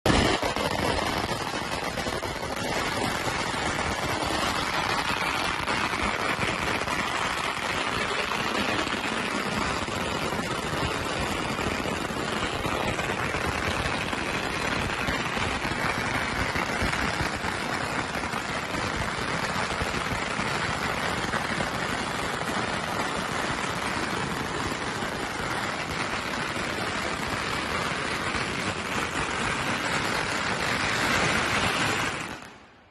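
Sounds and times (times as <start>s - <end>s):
firecrackers crackling: 0.0s - 32.9s.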